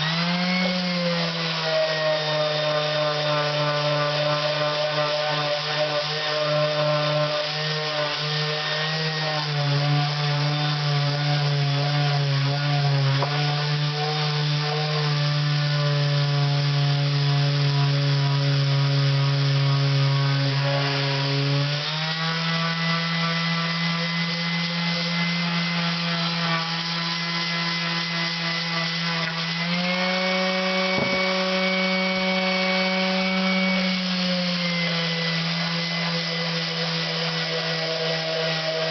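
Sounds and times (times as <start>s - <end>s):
power tool motor hum: 0.0s - 38.9s.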